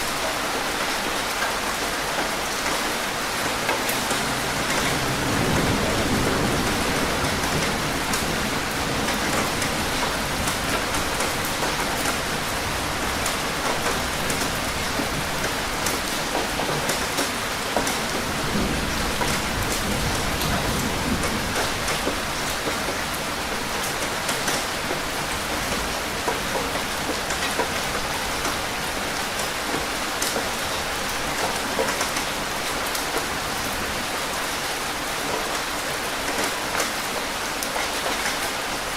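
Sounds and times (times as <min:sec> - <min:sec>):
raindrops ticking on a surface: 0:00.0 - 0:38.9
steady rain hiss: 0:00.0 - 0:38.9.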